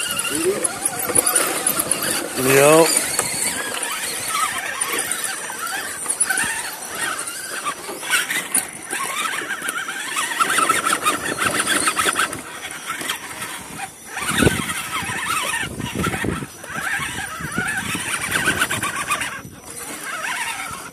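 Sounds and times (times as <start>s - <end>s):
electric motor and gears whining: 0.0s - 20.9s.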